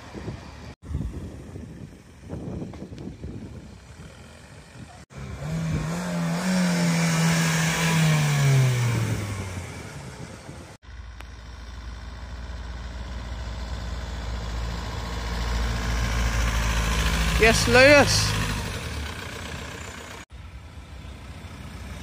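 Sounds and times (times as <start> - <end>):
car engine rumble approaching: 0.0 - 22.0.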